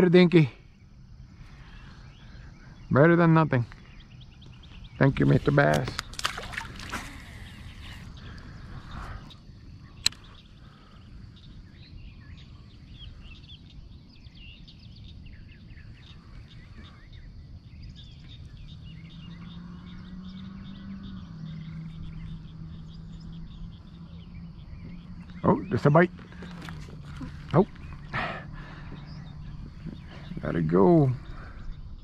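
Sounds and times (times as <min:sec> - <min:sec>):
birds chirping: 0:00.0 - 0:32.0
frogs calling: 0:00.0 - 0:32.0.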